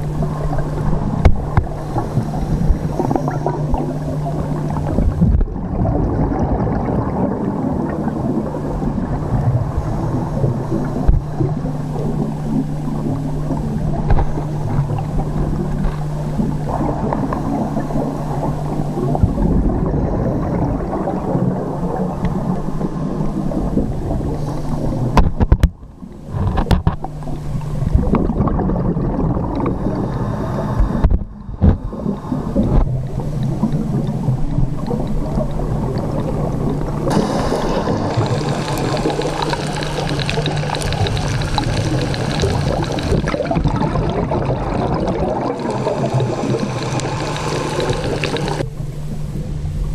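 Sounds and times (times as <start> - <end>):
low underwater rumble: 0.0 - 49.9
steady low hum: 0.0 - 49.9.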